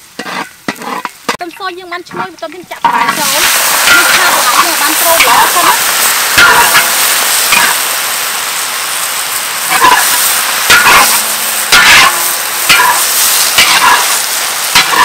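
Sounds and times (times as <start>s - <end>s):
greens sizzling in a wok: 0.0s - 15.0s
metal spatula scraping a pan: 0.2s - 1.4s, 2.1s - 7.8s, 9.7s - 15.0s.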